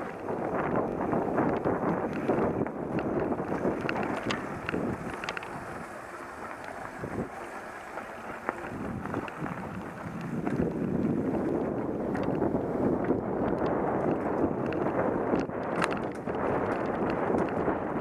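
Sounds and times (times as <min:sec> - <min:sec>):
bike clicks and rattles: 0:00.0 - 0:18.0
bike tyre rumble on dirt: 0:00.0 - 0:18.0
wind buffeting microphone: 0:00.0 - 0:18.0.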